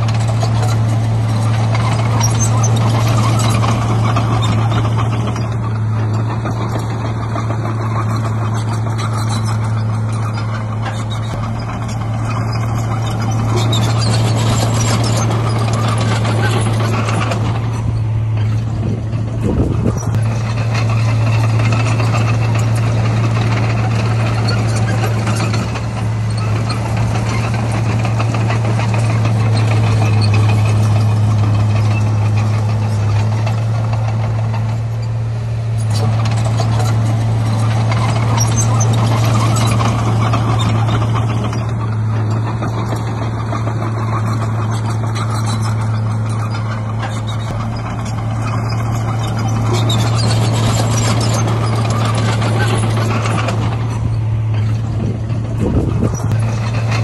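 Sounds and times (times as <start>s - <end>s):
diesel engine drone: 0.0s - 57.0s
mechanical clatter and grinding: 0.0s - 57.0s.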